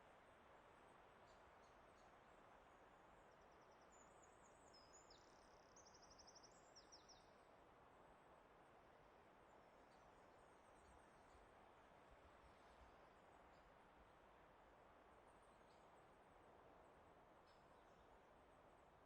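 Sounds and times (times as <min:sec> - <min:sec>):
faint forest ambience hiss: 0:00.0 - 0:19.0.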